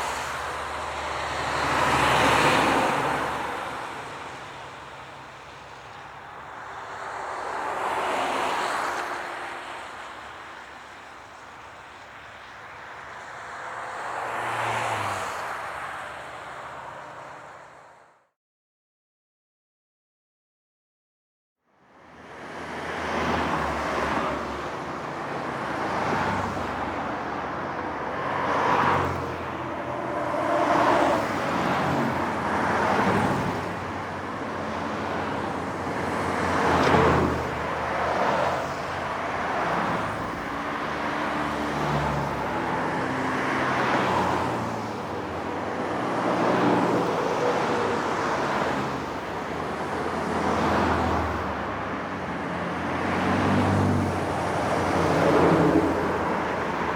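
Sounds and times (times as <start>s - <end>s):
cars passing on highway: 0.0s - 18.2s, 21.8s - 56.9s.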